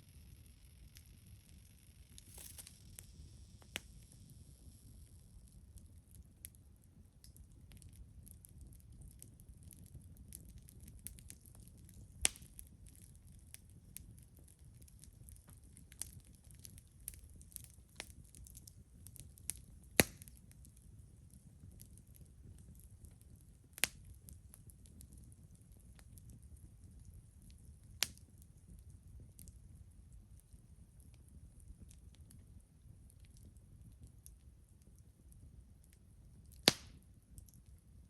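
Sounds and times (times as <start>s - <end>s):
campfire crackling and popping: 0.2s - 38.0s.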